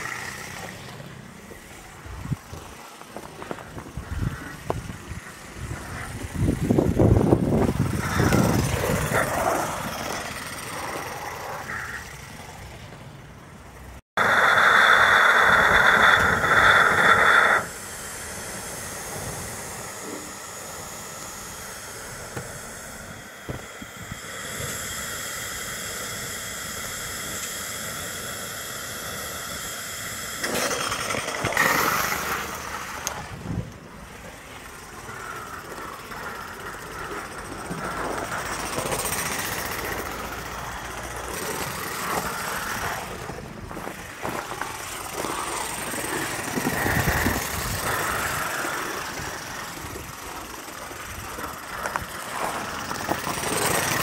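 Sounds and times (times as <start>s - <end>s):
steam locomotive hissing: 0.0s - 13.0s, 13.6s - 54.0s
rough rushing noise: 0.0s - 54.0s
steam whistling tone: 3.5s - 12.7s, 14.2s - 54.0s.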